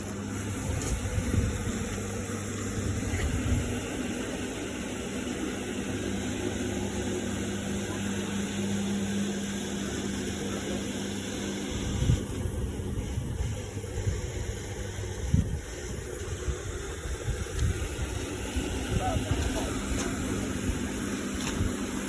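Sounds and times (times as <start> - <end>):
carpet cleaner motor running: 0.0 - 22.0.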